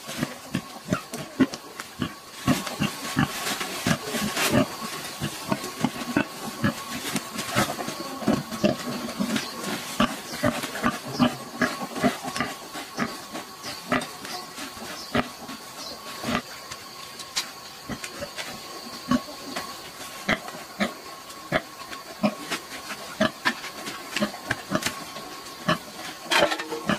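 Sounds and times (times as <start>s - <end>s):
pigs grunting: 0.0s - 16.6s, 17.8s - 26.9s
rustling in dry leaves: 0.0s - 26.9s.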